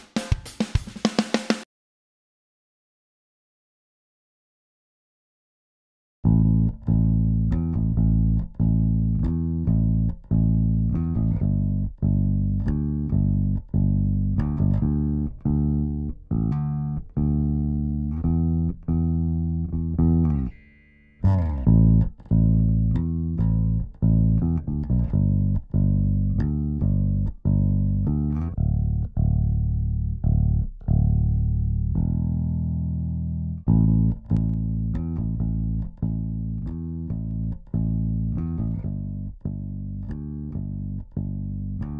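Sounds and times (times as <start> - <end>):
electric bass guitar notes: 6.2 - 41.9.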